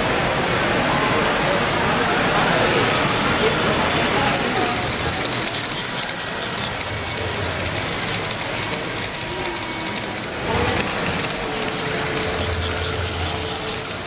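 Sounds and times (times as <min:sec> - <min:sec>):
babble of crowd: 0:00.0 - 0:14.0
model train running on track: 0:00.0 - 0:14.0.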